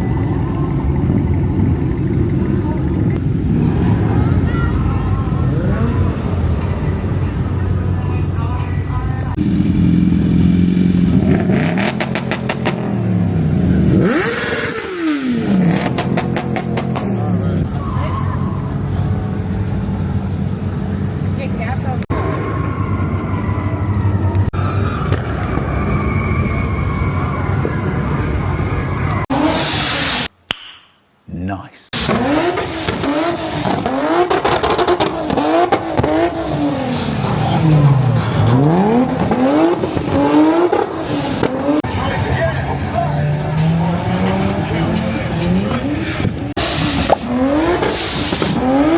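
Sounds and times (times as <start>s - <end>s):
car engine idling and revving: 0.0s - 30.3s, 32.0s - 48.9s.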